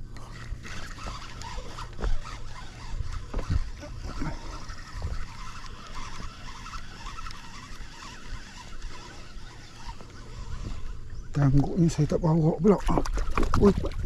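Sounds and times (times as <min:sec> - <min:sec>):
spinning reel cranking: 0:00.0 - 0:12.1
wind on microphone: 0:00.7 - 0:11.9, 0:13.0 - 0:14.0.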